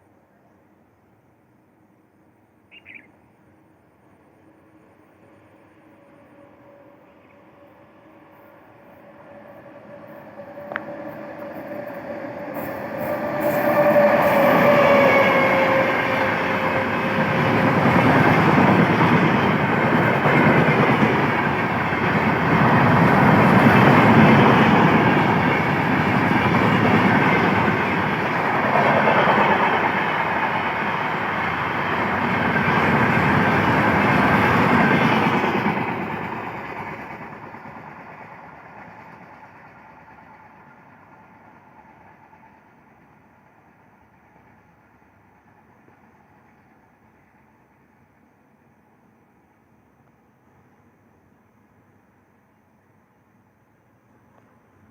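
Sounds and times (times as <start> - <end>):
train passing at speed: 0.0 - 54.9.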